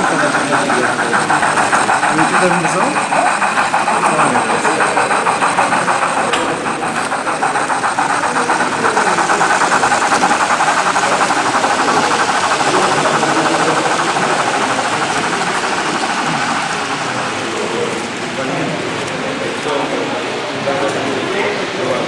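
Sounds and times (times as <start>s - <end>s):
model train rhythmic clatter: 0.0s - 22.0s.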